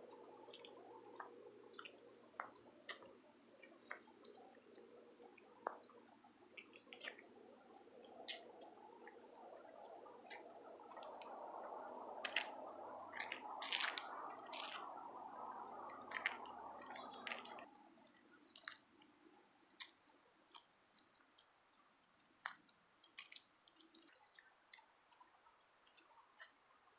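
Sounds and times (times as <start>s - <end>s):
steady background noise: 0.0s - 26.9s.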